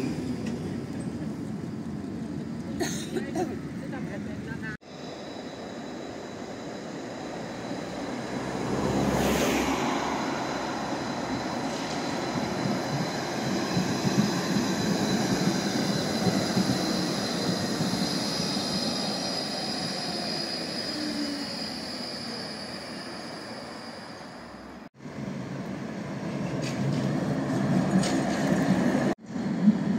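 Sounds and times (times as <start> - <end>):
tram rumbling on rails: 0.0 - 29.9.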